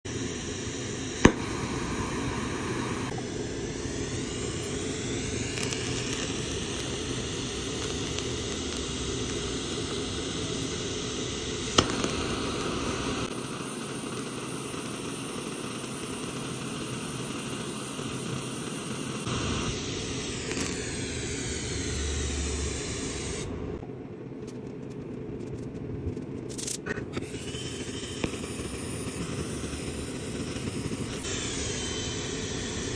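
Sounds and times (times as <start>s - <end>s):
torch flame hissing: 0.1s - 23.8s, 27.2s - 32.9s.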